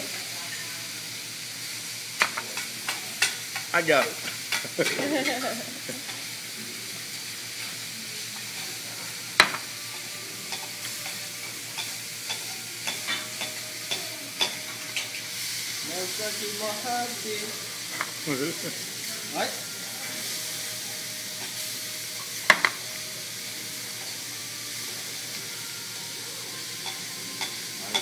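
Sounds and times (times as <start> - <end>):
food sizzling on a griddle: 0.0 - 28.0.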